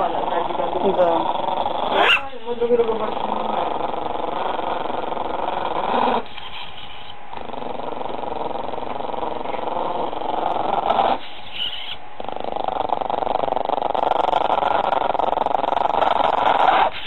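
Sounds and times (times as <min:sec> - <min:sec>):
small dog growling: 0:00.0 - 0:17.0.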